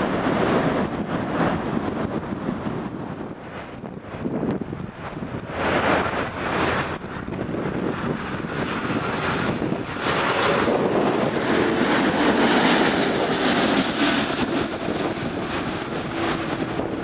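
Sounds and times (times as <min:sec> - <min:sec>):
jet airliner roaring overhead: 0:00.0 - 0:17.0.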